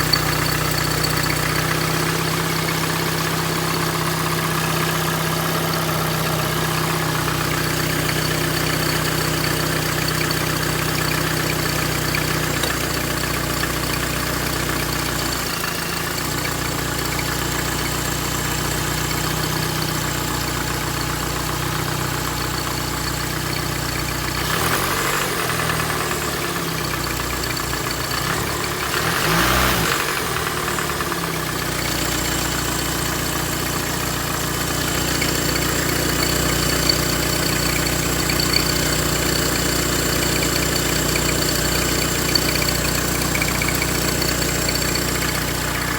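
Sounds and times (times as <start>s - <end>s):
car engine idling: 0.0s - 29.3s, 29.9s - 45.9s.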